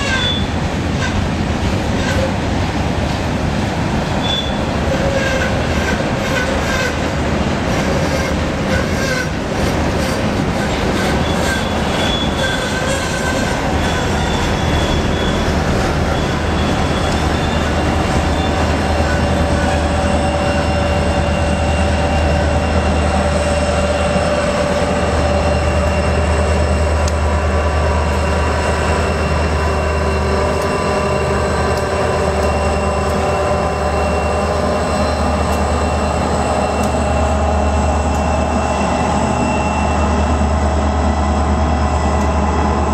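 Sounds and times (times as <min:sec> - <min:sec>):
diesel locomotive engines droning: 0:00.0 - 0:42.9.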